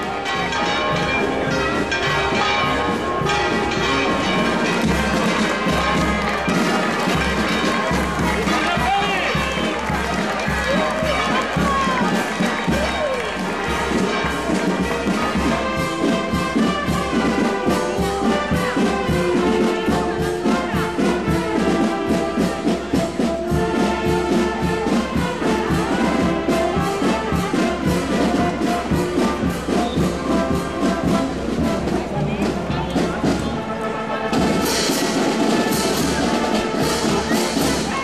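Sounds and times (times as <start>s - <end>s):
brass band playing: 0.0s - 38.0s.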